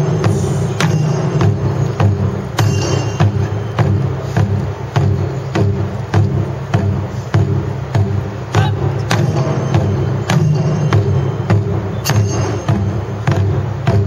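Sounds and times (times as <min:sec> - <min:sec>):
taiko drums playing steady beat: 0:00.0 - 0:14.0.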